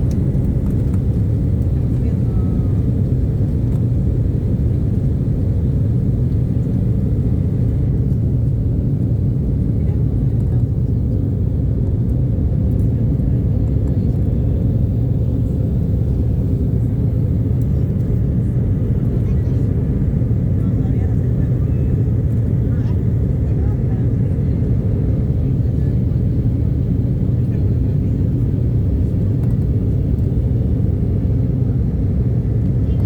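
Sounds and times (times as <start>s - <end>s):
jet engines low rumble: 0.0s - 33.0s.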